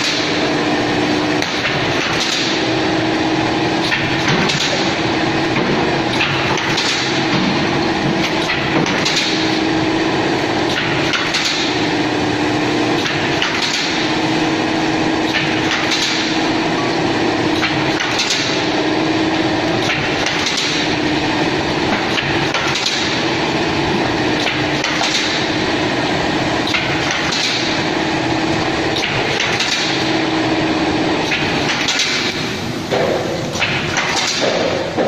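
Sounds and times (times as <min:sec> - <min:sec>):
laminating machine humming and clacking: 0:00.0 - 0:35.0.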